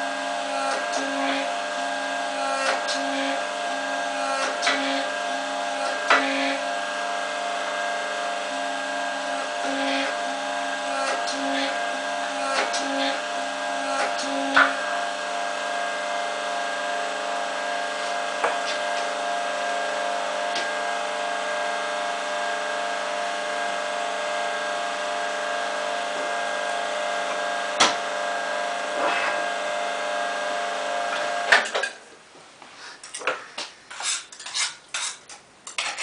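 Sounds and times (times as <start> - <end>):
electric furnace humming: 0.0 - 34.6.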